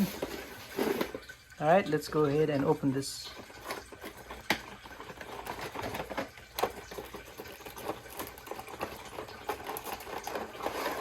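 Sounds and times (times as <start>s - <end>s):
cardboard box rustling: 0.0s - 1.3s, 3.4s - 11.0s.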